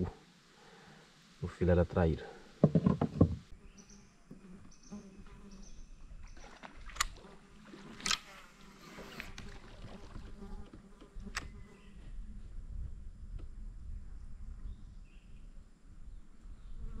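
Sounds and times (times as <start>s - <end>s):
faint insect buzz: 0.0s - 17.0s.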